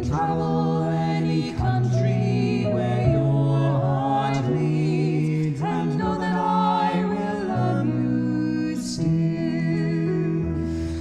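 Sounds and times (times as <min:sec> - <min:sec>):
person singing slow song: 0:00.0 - 0:11.0.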